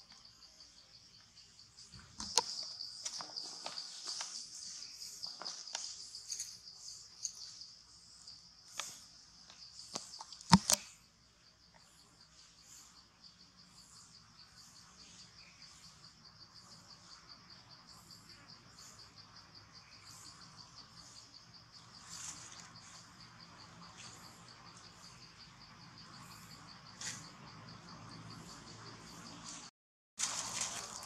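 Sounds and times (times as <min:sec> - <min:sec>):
insects trilling: 0:00.0 - 0:31.0
soft insect chirp: 0:00.0 - 0:31.0.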